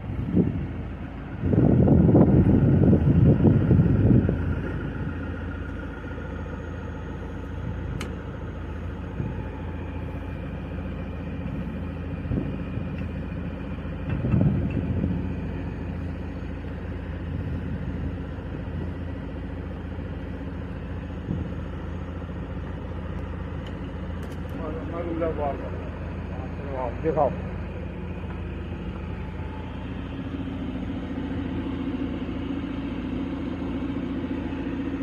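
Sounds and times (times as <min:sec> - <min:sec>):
road roller engine running: 0:00.0 - 0:35.0.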